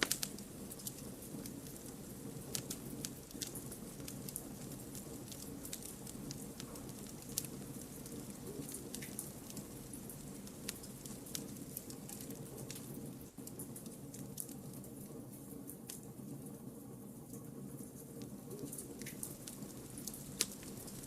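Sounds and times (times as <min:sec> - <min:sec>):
campfire crackling and popping: 0:00.0 - 0:16.3, 0:17.8 - 0:21.0
low rush of flame: 0:00.0 - 0:21.0.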